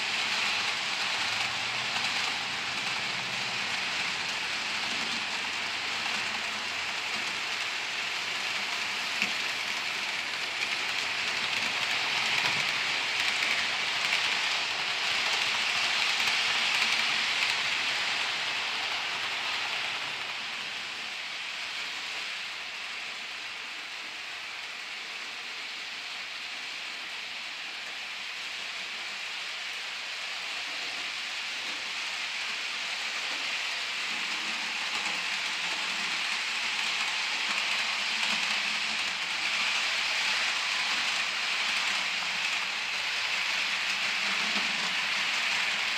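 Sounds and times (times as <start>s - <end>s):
model train rushing hiss: 0.0s - 45.9s.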